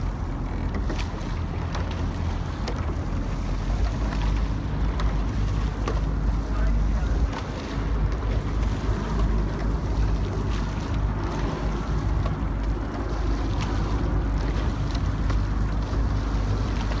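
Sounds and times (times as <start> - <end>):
boat engine humming: 0.0 - 17.0
water washing past hull: 0.0 - 17.0.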